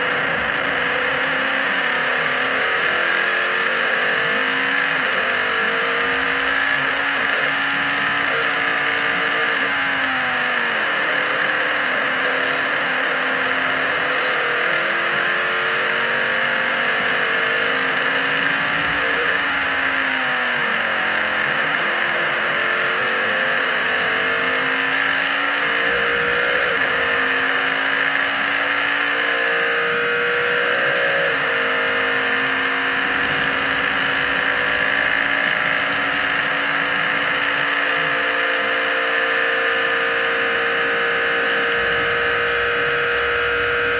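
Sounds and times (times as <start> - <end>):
racing engine at full throttle: 0.0 - 43.9.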